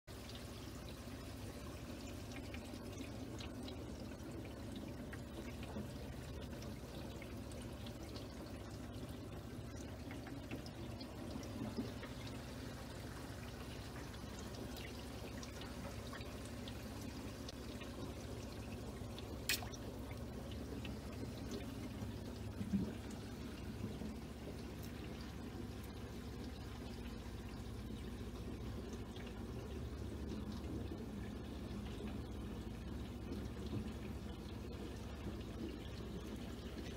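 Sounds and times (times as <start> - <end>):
filter pump hum: 0.1 - 36.9
water trickling and splashing: 0.1 - 36.9.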